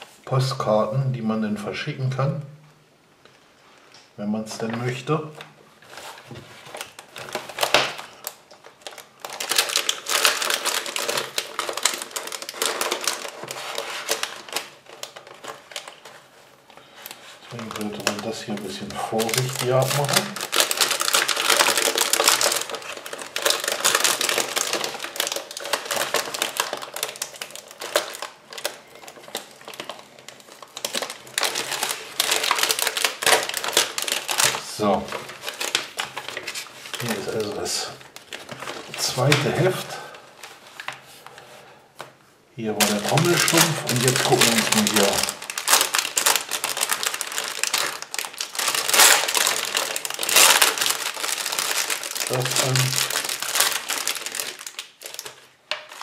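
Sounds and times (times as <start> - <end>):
plastic packaging crackling: 0.0 - 1.4, 3.2 - 56.0
plastic bag crinkling: 3.2 - 56.0.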